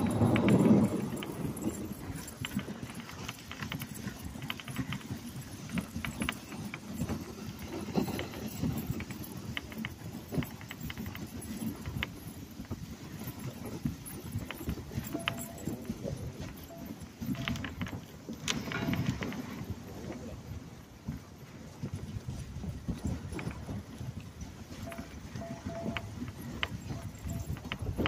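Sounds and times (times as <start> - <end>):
sled and chain rattling: 0.0 - 28.0
sled runners rumbling on snow: 0.0 - 28.0.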